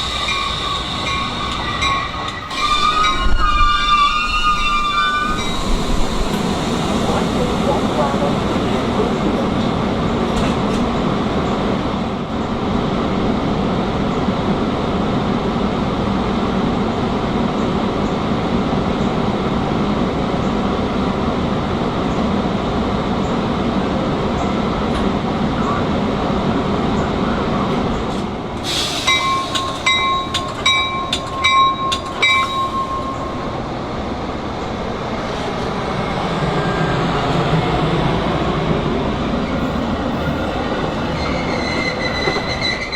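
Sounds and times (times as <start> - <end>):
train rumbling on tracks: 0.0 - 42.9.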